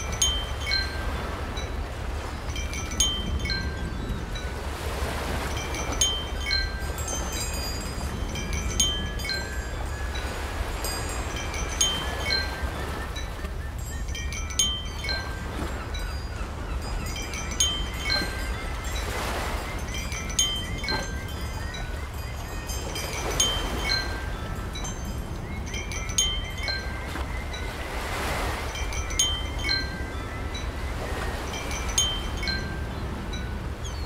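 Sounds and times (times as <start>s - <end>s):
low wind rumble: 0.0s - 34.0s
wind chimes tinkling: 0.0s - 34.0s.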